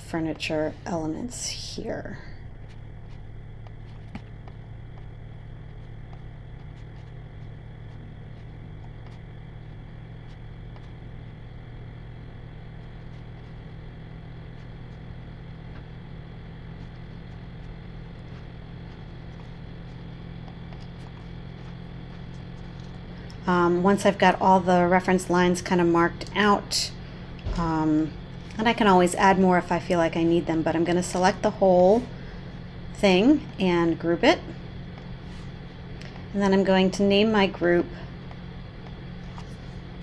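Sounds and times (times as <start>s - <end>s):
low room hum: 0.0s - 40.0s.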